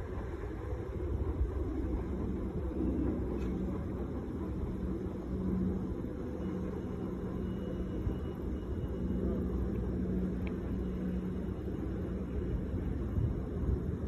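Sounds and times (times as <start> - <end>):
distant freight train rumbling: 0.0 - 14.0
faint hum: 0.0 - 14.0.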